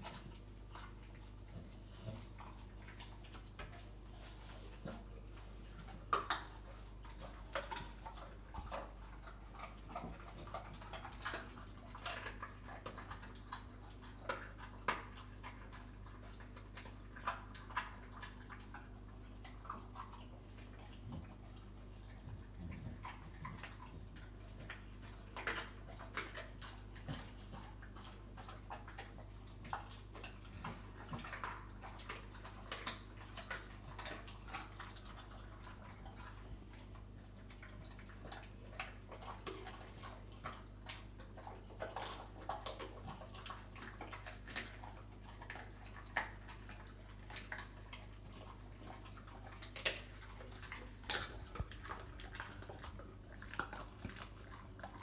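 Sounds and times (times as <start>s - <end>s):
dog crunching bones: 0.0s - 55.0s.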